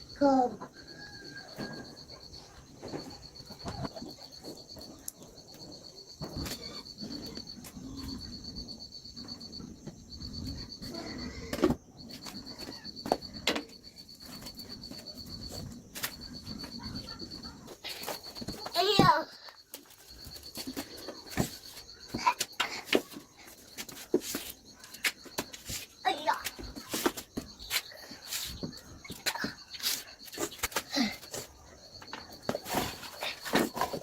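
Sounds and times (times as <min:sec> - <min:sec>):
insect trilling: 0:00.0 - 0:34.0.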